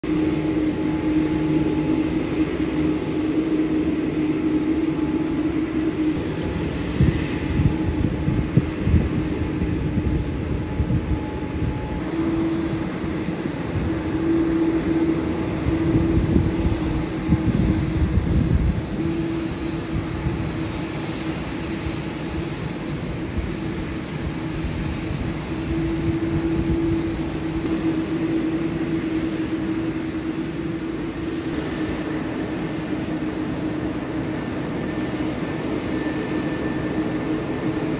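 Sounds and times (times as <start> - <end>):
jet engines idling: 0.0 - 37.9.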